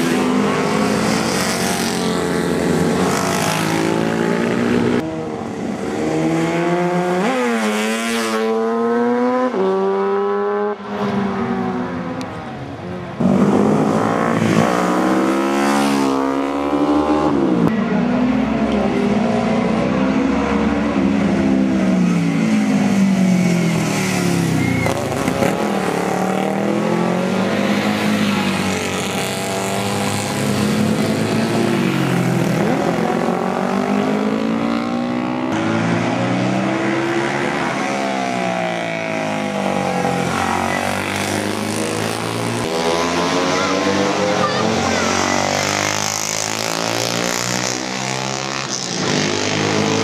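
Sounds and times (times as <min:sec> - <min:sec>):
racing motorcycles revving past: 0:00.0 - 0:12.2, 0:13.2 - 0:50.0.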